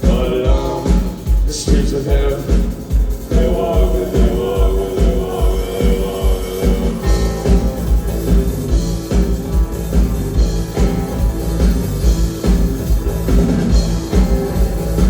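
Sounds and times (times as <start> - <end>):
kick drum beat: 0.0 - 15.0
live rock band playing: 0.0 - 15.0.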